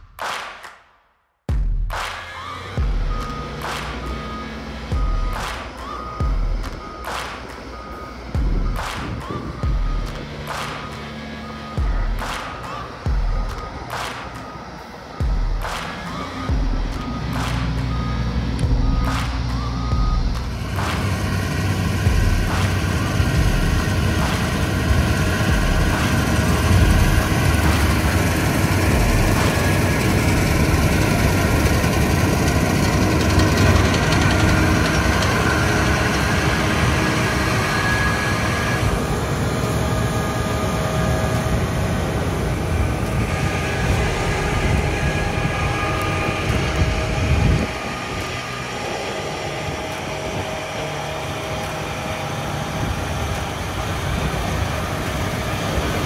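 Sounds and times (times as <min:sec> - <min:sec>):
combine harvester engine droning: 0:02.2 - 0:56.0.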